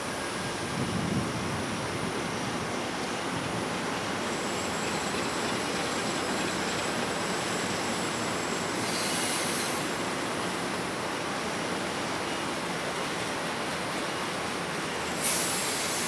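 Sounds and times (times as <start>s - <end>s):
diesel locomotive and train passing: 0.0s - 16.0s.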